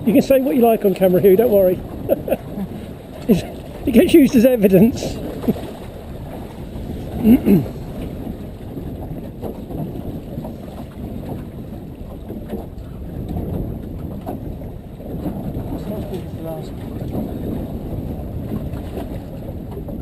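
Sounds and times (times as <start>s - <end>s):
boat rumble and water wash: 0.0s - 20.0s
wind buffeting microphone: 0.0s - 20.0s.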